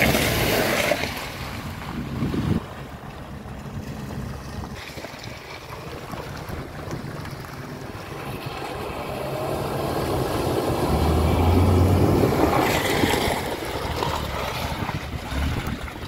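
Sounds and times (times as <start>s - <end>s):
off-road vehicle engine running: 0.0s - 16.0s
wind buffeting microphone: 1.4s - 16.0s.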